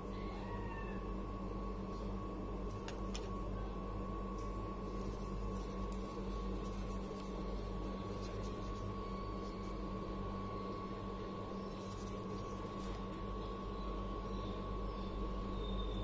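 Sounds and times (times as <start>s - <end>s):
room drone with high whine: 0.0s - 16.0s.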